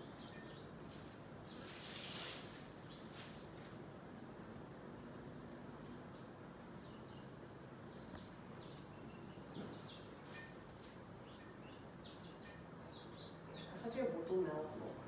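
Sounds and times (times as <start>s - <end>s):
small birds chirping: 0.0s - 3.8s, 5.2s - 15.0s
steady low hiss: 0.0s - 15.0s.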